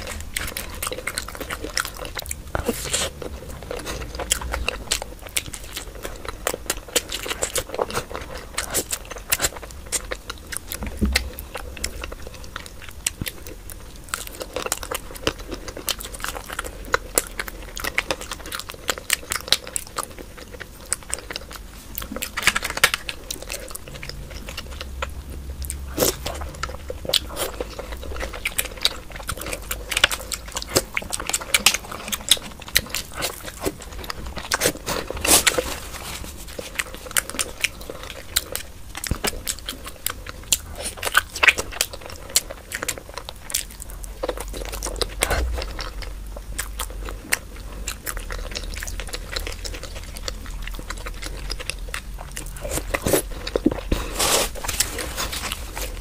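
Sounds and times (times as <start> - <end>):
chewing and wet mouth sounds: 0.0 - 56.0.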